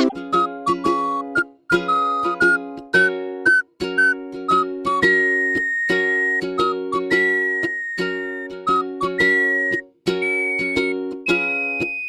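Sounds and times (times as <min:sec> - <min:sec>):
strummed chords: 0:00.0 - 0:12.0
whistled tune: 0:00.0 - 0:12.0.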